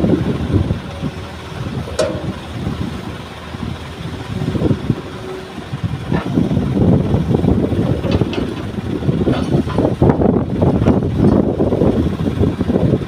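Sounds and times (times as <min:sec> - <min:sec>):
excavator diesel engine rumble: 0:00.0 - 0:13.0.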